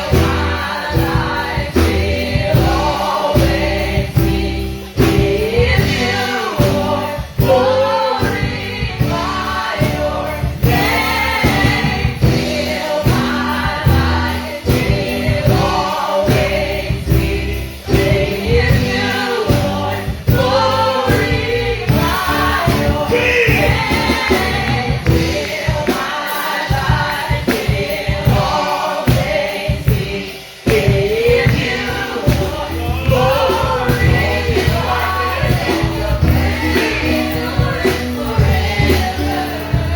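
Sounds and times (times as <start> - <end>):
gospel choir and congregation singing: 0.0 - 39.9
instrumental accompaniment: 0.0 - 39.9.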